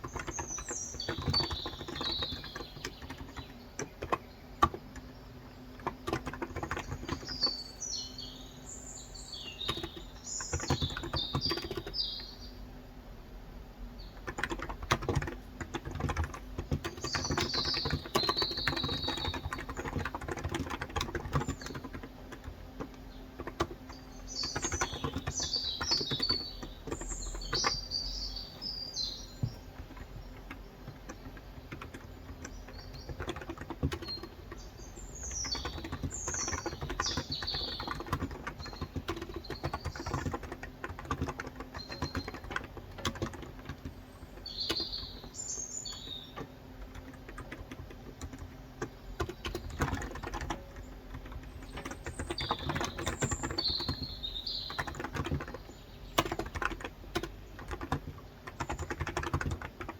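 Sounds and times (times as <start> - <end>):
keyboard typing: 0.0 - 8.3, 9.0 - 12.3, 14.0 - 59.9
birds chirping: 0.0 - 12.7, 13.8 - 59.9.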